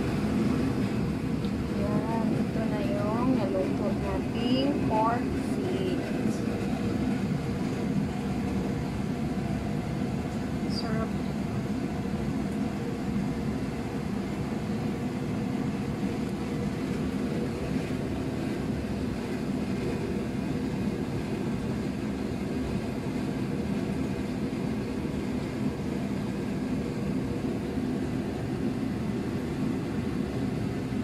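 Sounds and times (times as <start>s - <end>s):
faint constant tones: 0.0s - 31.0s
fan motor droning: 0.0s - 31.0s.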